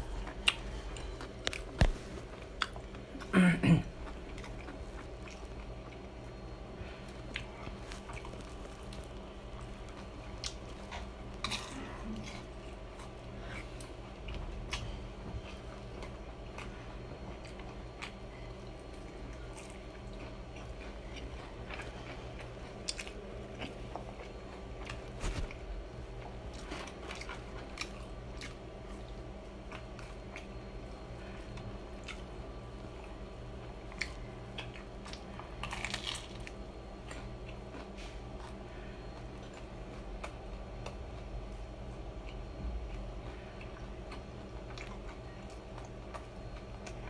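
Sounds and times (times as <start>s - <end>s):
faint steady hum: 0.0s - 47.0s
crunching of crispy crust: 3.9s - 47.0s.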